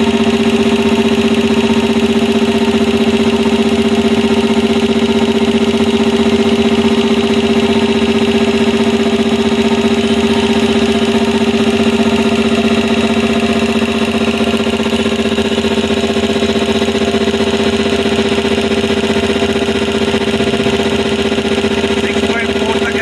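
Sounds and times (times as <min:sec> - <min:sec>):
air compressor running: 0:00.0 - 0:23.0.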